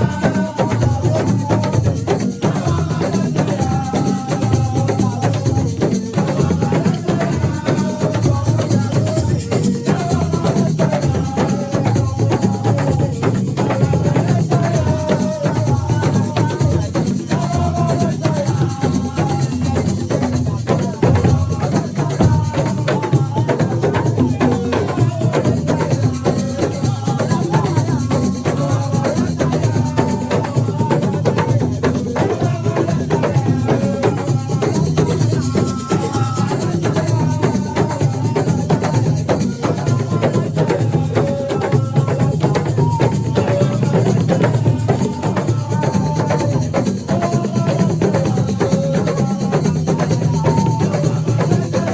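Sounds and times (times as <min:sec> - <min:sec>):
hand drums: 0:00.0 - 0:51.9
shaker rattles: 0:00.0 - 0:51.9
voices singing: 0:00.0 - 0:51.9.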